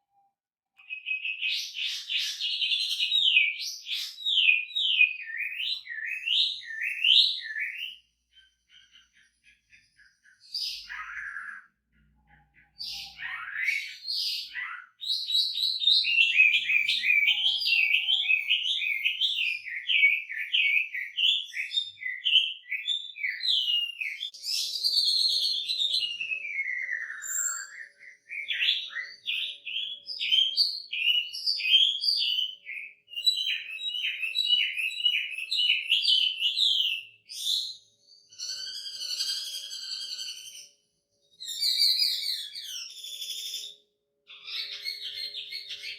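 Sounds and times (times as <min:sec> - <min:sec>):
songbird singing whistled notes: 0:00.8 - 0:45.9.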